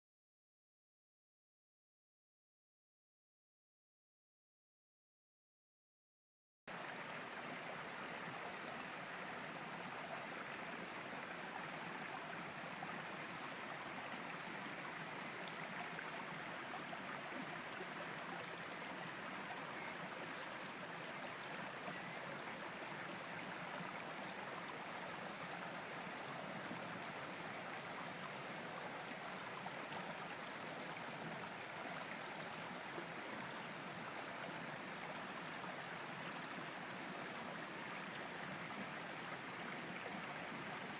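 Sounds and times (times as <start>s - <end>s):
stream flowing over rocks: 6.7s - 40.9s.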